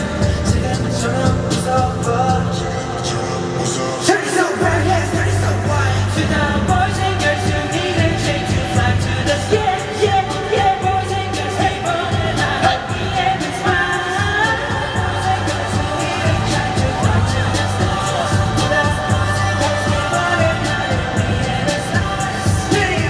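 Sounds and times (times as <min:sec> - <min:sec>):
pop song singing over bass beat: 0:00.0 - 0:23.0.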